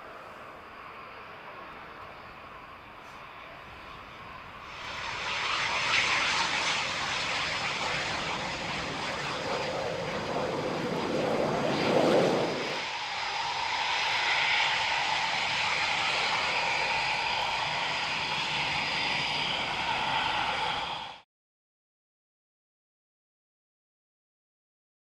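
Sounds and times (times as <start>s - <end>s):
jet engines running: 0.0s - 21.2s.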